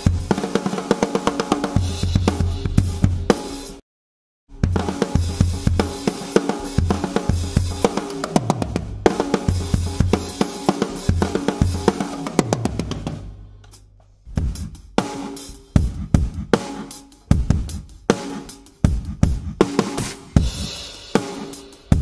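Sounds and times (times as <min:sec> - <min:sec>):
drum kit playing: 0:00.0 - 0:03.8, 0:04.5 - 0:22.0.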